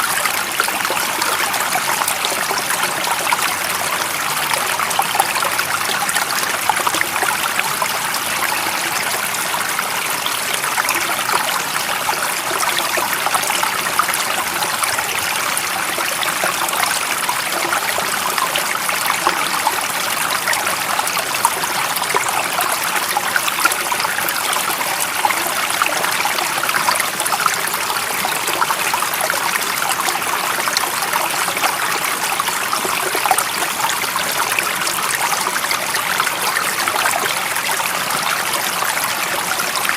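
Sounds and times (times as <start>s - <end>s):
stream water rushing and trickling: 0.0s - 39.9s.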